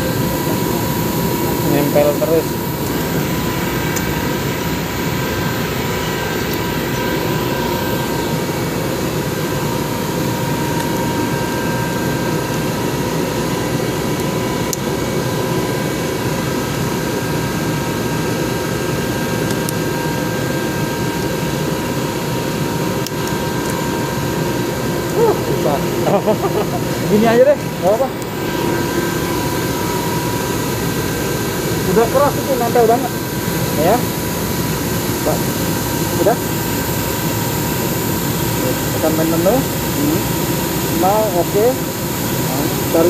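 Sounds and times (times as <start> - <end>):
thin steady whine: 0.0 - 43.0.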